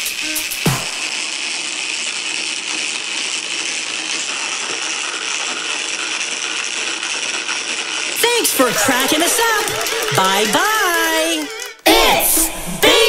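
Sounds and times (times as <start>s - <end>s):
clockwork toy rattling whir: 0.0s - 12.0s.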